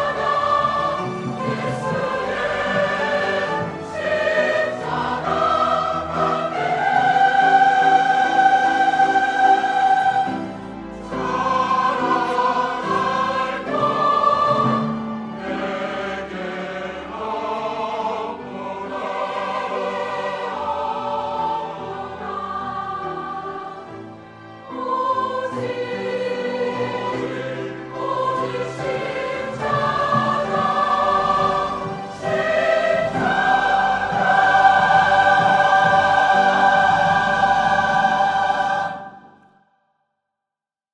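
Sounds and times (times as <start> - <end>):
church choir singing: 0.0 - 39.8.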